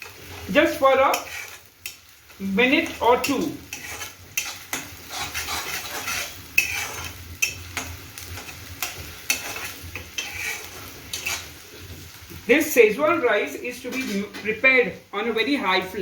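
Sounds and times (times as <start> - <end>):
utensil scraping and tapping wok: 0.0 - 12.5, 13.7 - 14.6
onion sizzling in oil: 0.0 - 16.0.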